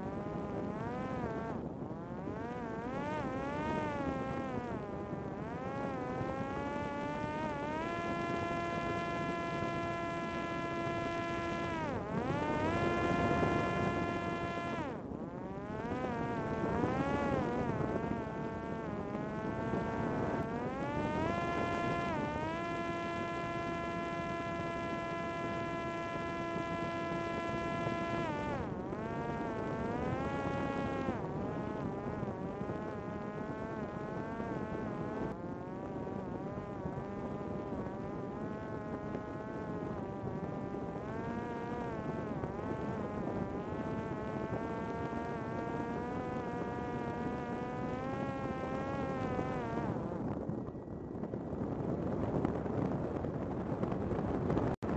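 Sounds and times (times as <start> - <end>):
drone motor whining: 0.0 - 52.9
wind noise: 0.0 - 54.9.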